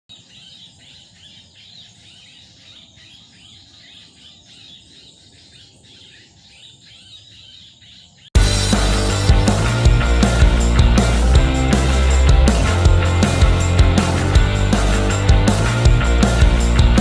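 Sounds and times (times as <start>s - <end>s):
chorus of high-pitched chirps: 0.1s - 17.0s.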